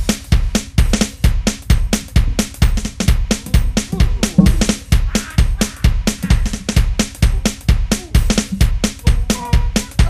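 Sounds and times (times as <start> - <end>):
kick and snare drum hits: 0.0 - 10.0.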